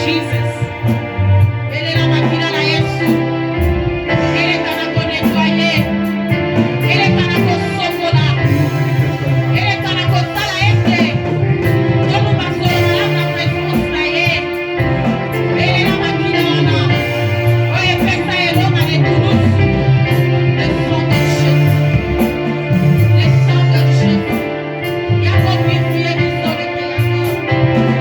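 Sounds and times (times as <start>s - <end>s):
bass: 0.0s - 28.0s
keyboard chords: 0.0s - 28.0s
worship singing: 0.0s - 28.0s.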